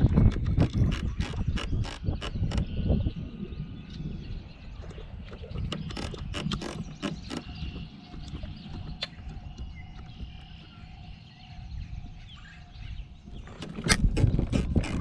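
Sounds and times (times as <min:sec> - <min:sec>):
wind rumble: 0:00.0 - 0:15.0
faint bird chirps: 0:01.5 - 0:13.6.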